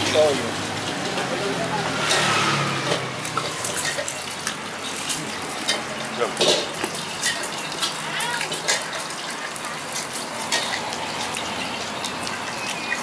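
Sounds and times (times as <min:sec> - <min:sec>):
stir-frying sizzle: 0:00.0 - 0:13.0
metal utensils clinking: 0:02.0 - 0:13.0.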